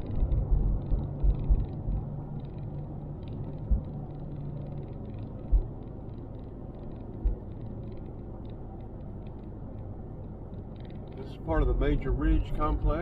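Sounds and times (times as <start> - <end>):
tyre and engine rumble in car: 0.0 - 13.0.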